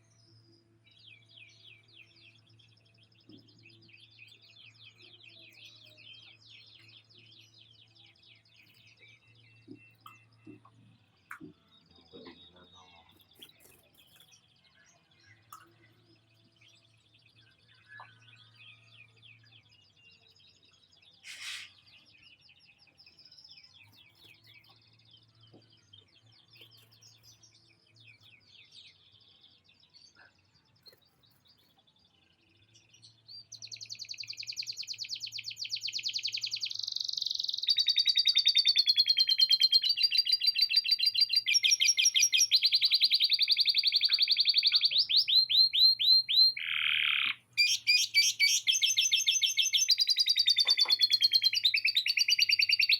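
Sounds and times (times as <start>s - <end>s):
canary singing trills: 2.0s - 52.9s.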